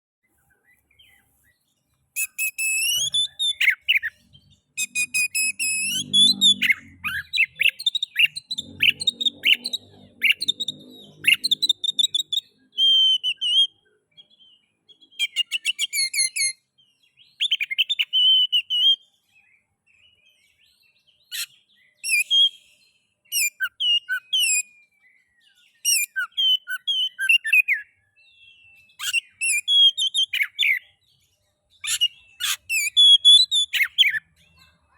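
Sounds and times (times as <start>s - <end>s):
bird singing whistles and trills: 0.2s - 34.9s.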